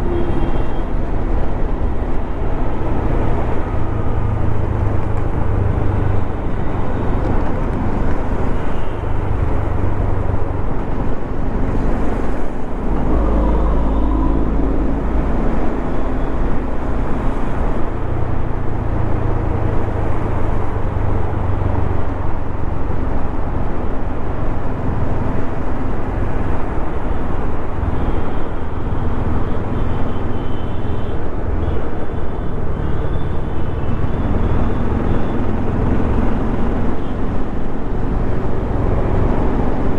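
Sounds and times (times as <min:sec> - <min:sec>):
road noise rushing: 0:00.0 - 0:30.1, 0:31.2 - 0:39.9.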